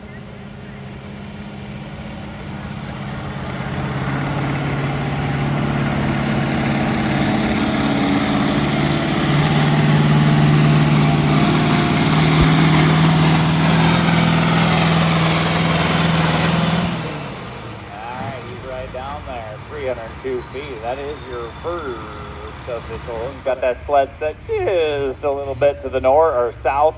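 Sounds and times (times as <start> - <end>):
diesel engine under full throttle: 0.0 - 26.9.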